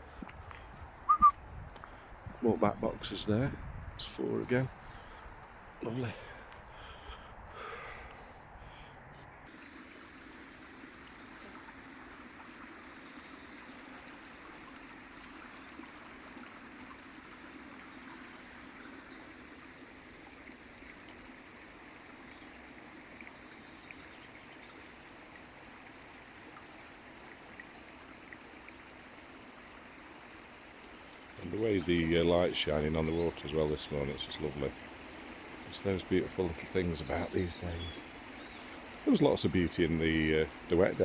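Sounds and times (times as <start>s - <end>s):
stream water trickling: 0.0s - 8.8s, 9.4s - 41.0s.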